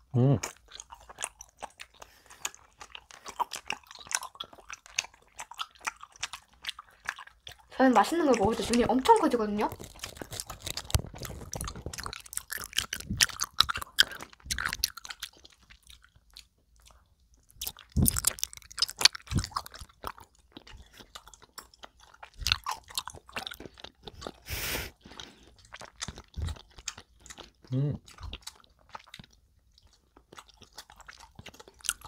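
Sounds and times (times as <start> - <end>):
chewing gummy candy: 0.0 - 32.0.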